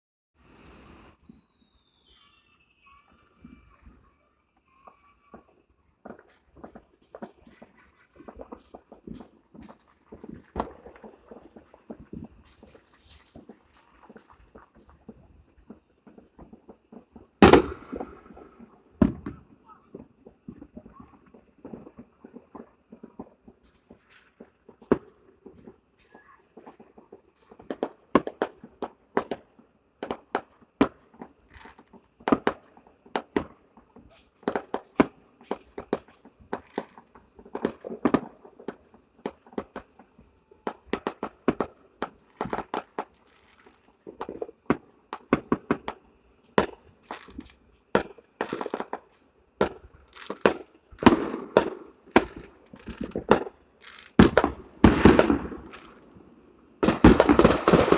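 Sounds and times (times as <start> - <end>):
fireworks bangs and crackles: 0.5 - 57.9.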